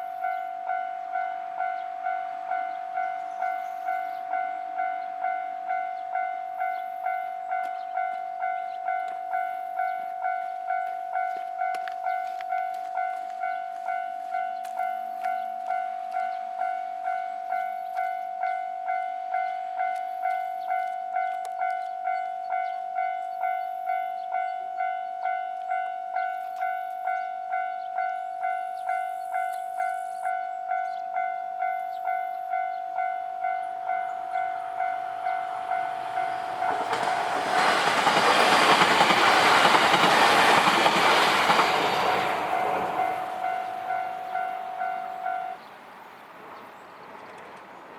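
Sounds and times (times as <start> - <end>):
level-crossing warning bell ringing: 0.0 - 46.1
electric train passing: 0.0 - 47.9.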